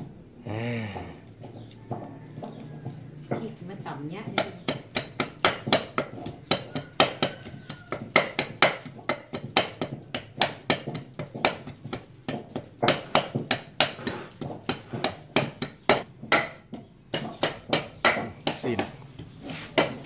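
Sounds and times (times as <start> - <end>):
wooden pestle pounding in mortar: 0.0 - 20.0.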